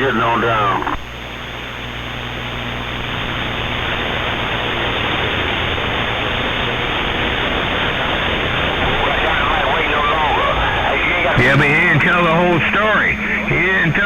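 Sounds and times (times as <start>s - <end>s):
low steady hum: 0.0s - 14.0s
radio static hiss: 0.0s - 14.0s.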